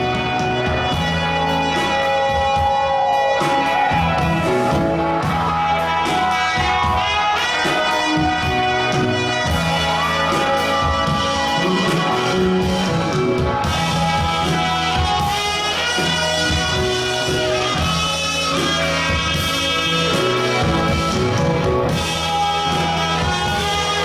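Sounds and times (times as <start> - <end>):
drums: 0.0 - 24.0
electric bass: 0.0 - 24.0
electric guitar: 0.0 - 24.0
keyboard: 0.0 - 24.0
trumpet line: 0.0 - 24.0.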